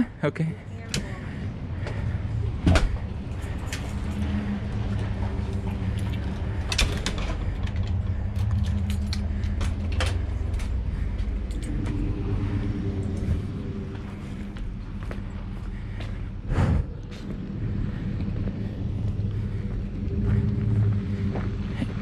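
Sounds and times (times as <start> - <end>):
motor running steadily: 0.6 - 22.0.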